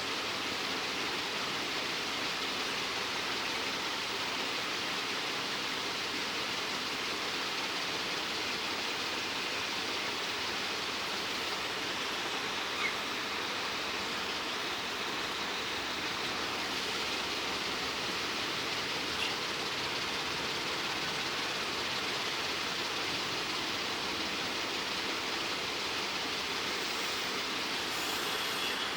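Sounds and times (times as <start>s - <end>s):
water spraying hiss: 0.0s - 28.9s.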